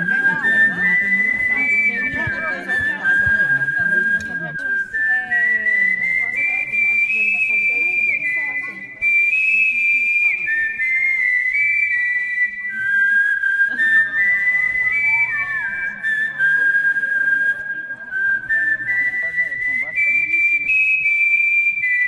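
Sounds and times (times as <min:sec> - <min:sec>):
whistled melody: 0:00.0 - 0:22.0.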